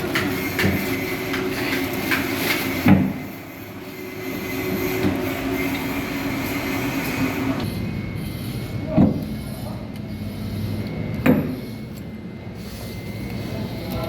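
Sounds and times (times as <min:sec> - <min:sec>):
machine-like hum: 0:00.0 - 0:14.0.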